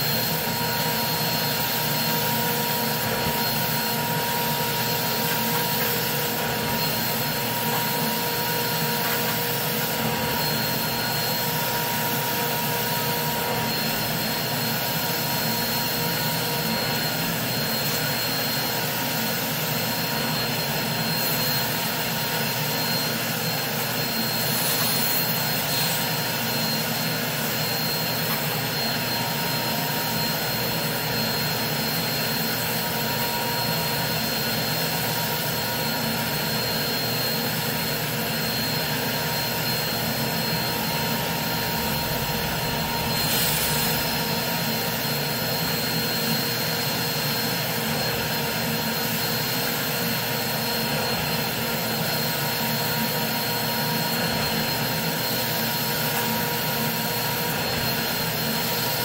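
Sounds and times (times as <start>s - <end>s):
carpet extractor vacuum rushing: 0.0s - 59.0s.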